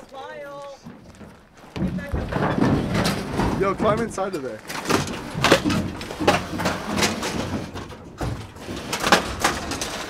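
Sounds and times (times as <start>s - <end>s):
scrapes on metal debris: 0.8s - 10.0s.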